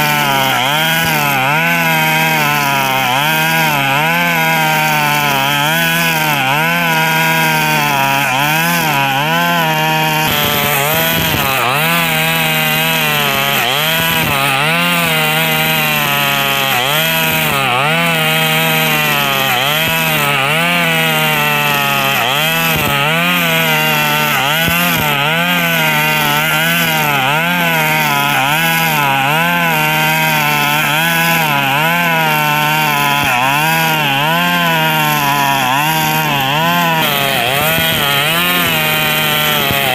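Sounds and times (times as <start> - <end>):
brush cutter at high revs: 0.0 - 39.9.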